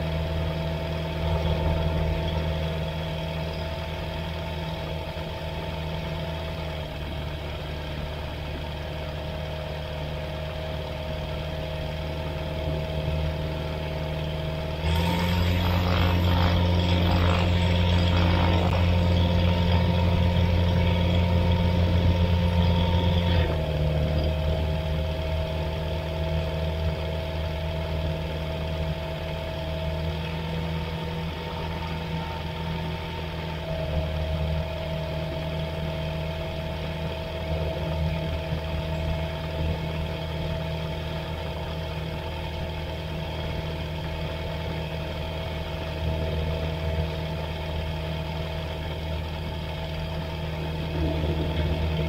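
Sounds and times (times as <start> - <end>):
light aircraft engine and propeller: 0.0 - 52.0.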